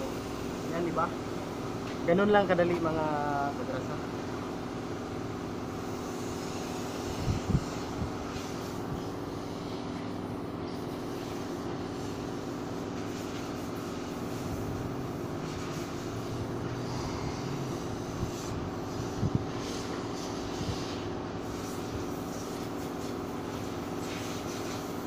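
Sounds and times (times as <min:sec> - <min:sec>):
machinery hum: 0:00.0 - 0:24.2.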